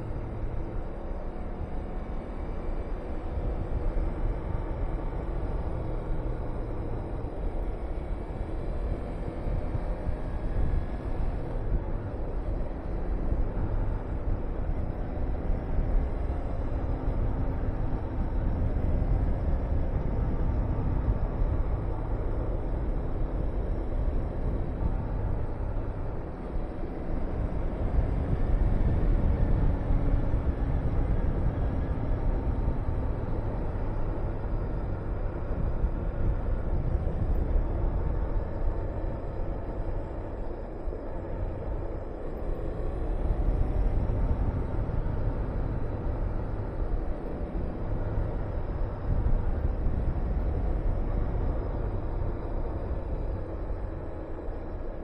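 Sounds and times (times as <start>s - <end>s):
wind buffeting microphone: 3.3s - 55.0s.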